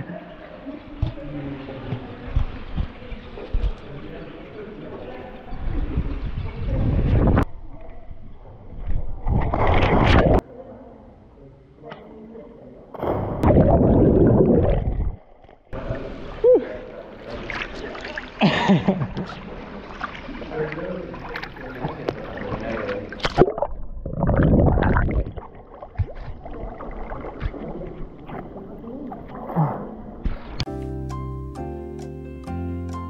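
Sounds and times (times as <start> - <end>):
water sloshing and gurgling: 0.0 - 10.4, 13.0 - 30.7.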